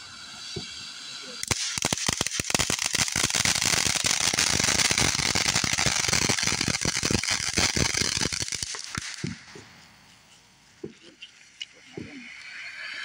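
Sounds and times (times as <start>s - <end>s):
firework fountain hissing and crackling: 0.0s - 13.0s.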